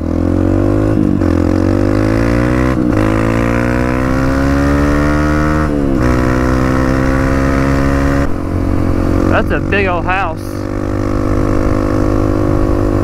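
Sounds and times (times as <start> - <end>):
dirt bike engine accelerating: 0.0 - 13.0.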